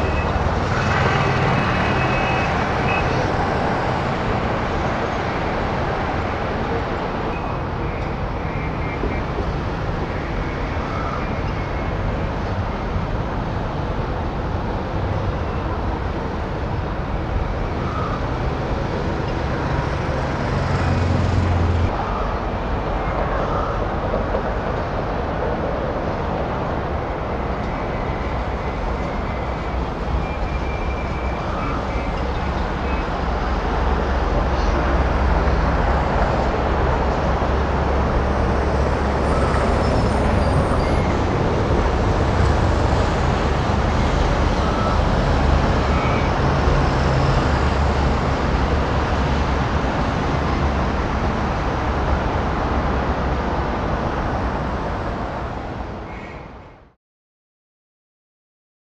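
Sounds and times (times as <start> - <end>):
road traffic passing: 0.0 - 56.6.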